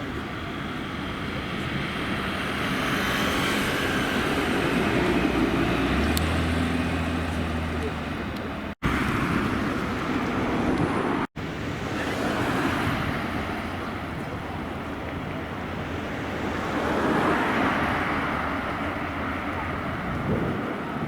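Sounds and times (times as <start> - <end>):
cars passing by: 0.0 - 21.0
wind on microphone: 1.2 - 21.0.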